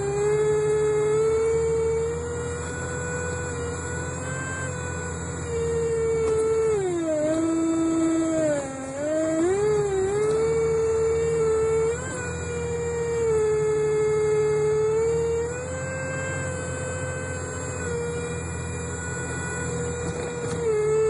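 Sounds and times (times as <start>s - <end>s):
bus howling whine: 0.0s - 21.0s
low rumble of bus engine: 0.0s - 21.0s.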